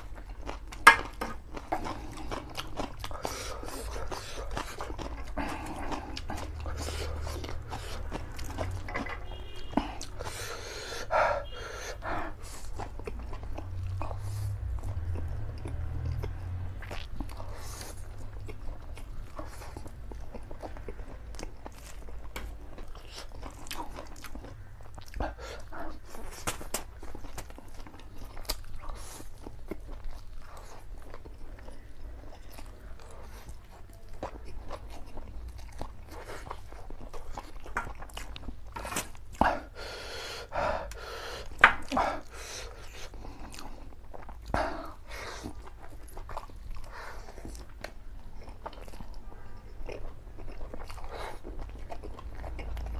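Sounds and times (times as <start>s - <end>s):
wet chewing: 0.0s - 52.9s.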